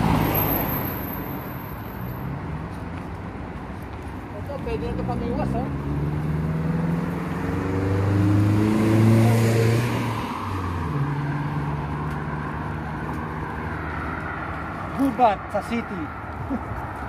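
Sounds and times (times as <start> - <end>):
cars passing on road: 0.0 - 17.0.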